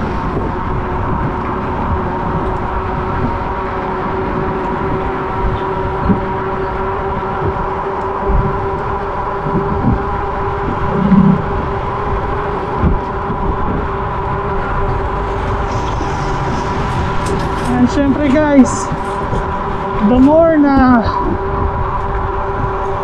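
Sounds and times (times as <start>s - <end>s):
electric bike drive whine: 0.0s - 23.0s
low hum: 0.0s - 23.0s
wind rumble on microphone: 0.0s - 23.0s.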